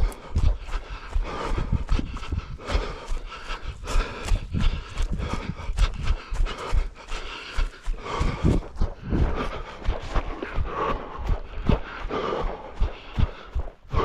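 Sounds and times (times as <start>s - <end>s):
heavy panting breath: 0.0s - 14.0s
running footsteps on forest ground: 0.0s - 14.0s.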